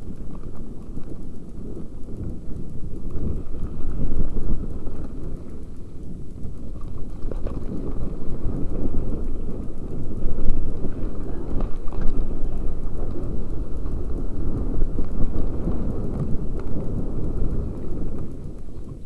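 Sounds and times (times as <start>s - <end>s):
bike rattle and tyre rumble: 0.0s - 19.0s
small clicks: 0.0s - 19.0s
wind buffeting microphone: 0.0s - 19.0s.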